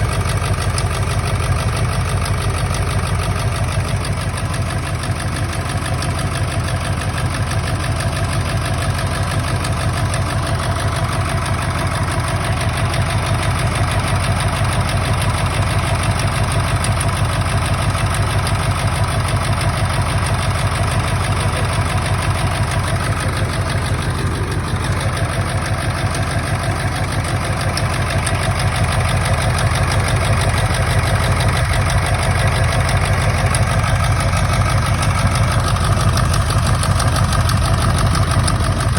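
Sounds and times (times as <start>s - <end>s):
diesel engine idling roughly: 0.0s - 38.9s.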